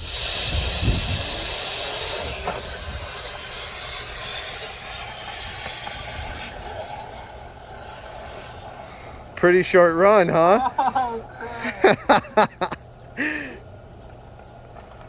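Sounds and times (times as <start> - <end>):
air hissing through vent duct: 0.0 - 14.8.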